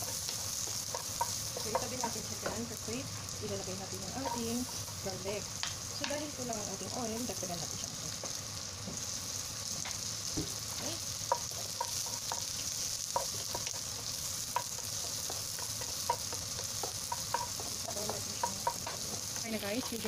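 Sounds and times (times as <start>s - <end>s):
aromatics sizzling in hot oil: 0.0s - 20.0s.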